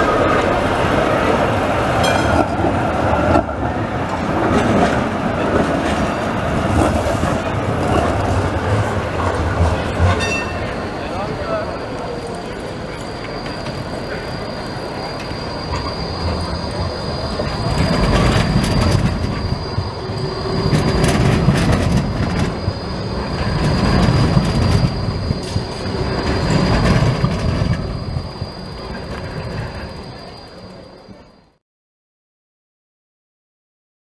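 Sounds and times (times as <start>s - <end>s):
tram rumbling: 0.0s - 31.6s
tram wheels squealing on rails: 0.0s - 31.6s.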